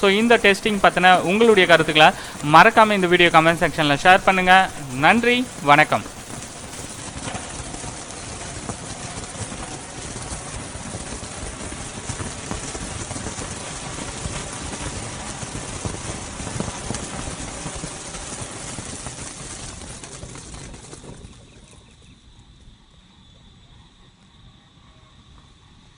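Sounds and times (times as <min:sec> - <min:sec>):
firework fountain hissing and crackling: 0:00.0 - 0:21.6.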